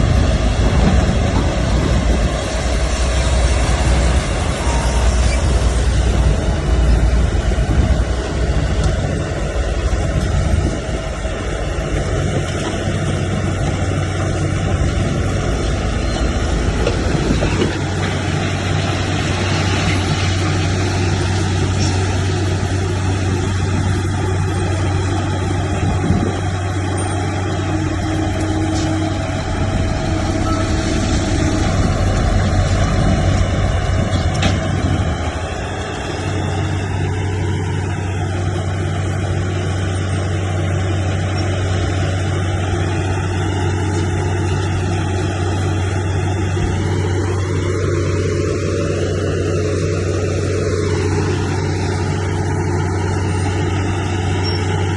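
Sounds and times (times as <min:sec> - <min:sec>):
diesel machinery engine hum: 0:00.0 - 0:54.9.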